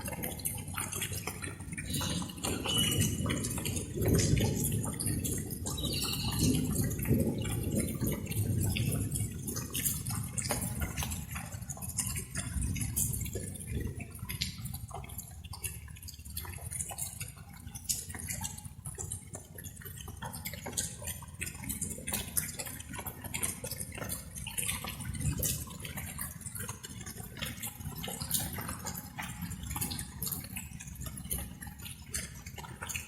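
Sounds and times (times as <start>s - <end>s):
drops dripping: 0.0s - 33.0s
light rain falling: 0.0s - 33.0s.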